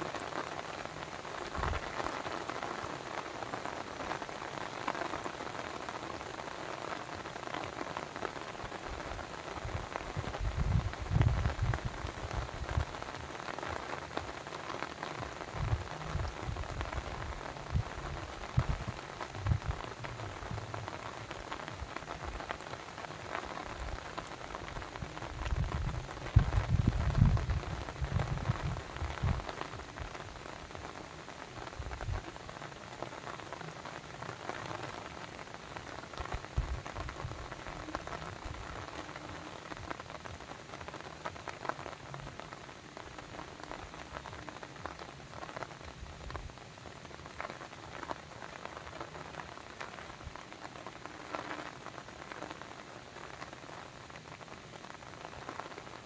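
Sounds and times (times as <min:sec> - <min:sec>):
rain falling: 0:00.0 - 0:56.0
raindrops pattering: 0:00.0 - 0:56.0.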